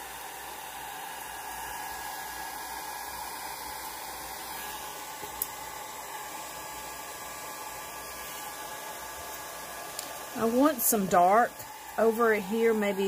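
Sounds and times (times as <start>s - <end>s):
blow dryer running: 0.0s - 13.0s.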